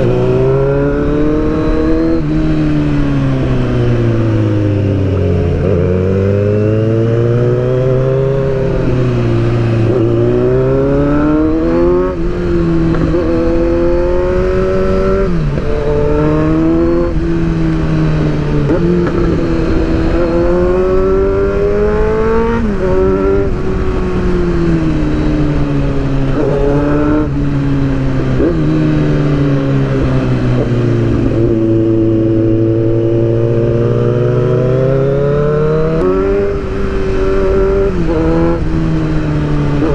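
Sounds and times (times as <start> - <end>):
motorcycle engine revving: 0.0 - 39.9
wind rushing on microphone: 0.0 - 39.9.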